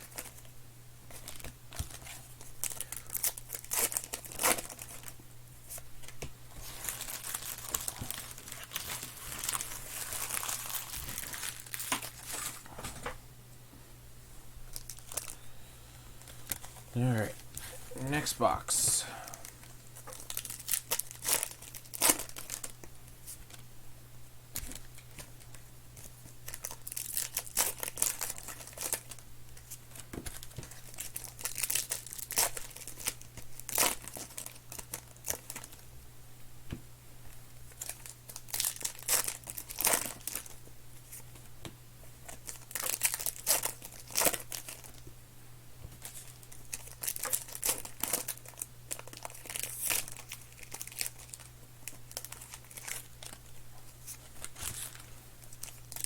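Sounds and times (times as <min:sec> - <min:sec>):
plastic wrappers tearing and crinkling: 0:00.0 - 0:00.4, 0:01.1 - 0:12.7, 0:14.7 - 0:15.4, 0:16.2 - 0:18.6, 0:19.3 - 0:23.6, 0:24.6 - 0:35.8, 0:37.7 - 0:41.2, 0:42.2 - 0:45.1, 0:46.0 - 0:56.0
low electrical hum: 0:00.0 - 0:56.0.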